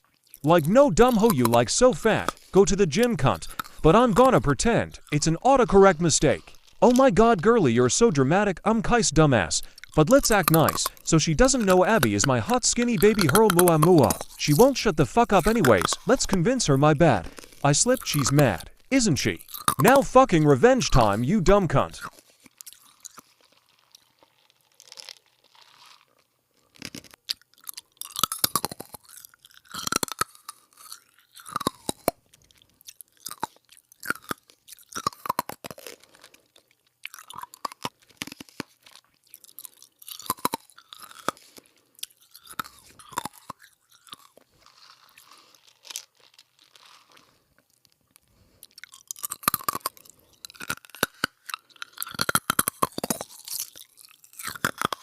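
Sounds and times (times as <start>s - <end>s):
crunchy food chewing: 0.0s - 55.0s.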